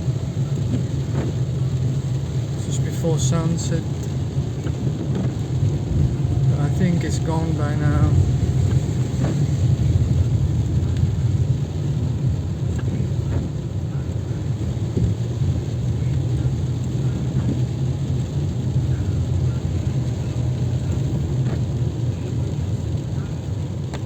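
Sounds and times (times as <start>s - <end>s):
raindrop ticks: 0.0s - 24.0s
steady rain falling: 0.0s - 24.0s
thunder rumble: 0.0s - 24.0s.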